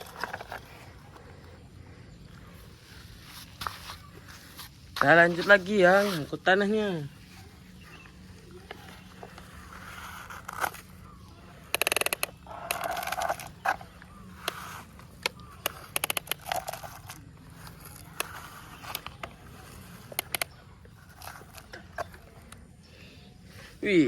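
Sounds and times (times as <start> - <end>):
toy excavator scraping dirt: 0.0 - 22.8.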